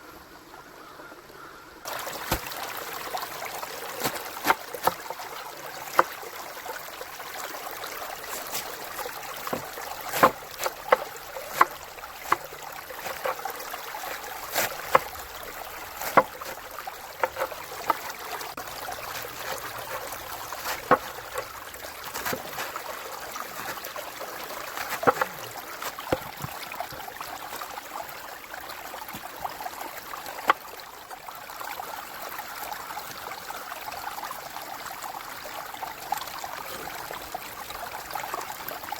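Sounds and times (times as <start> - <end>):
river flowing: 1.8 - 38.9.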